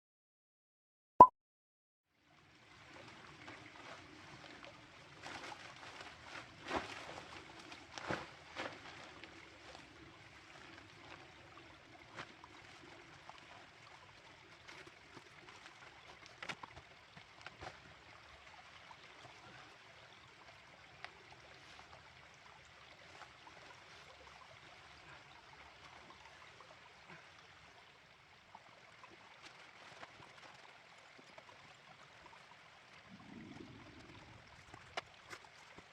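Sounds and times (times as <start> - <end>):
stream running over stones: 2.2 - 35.9.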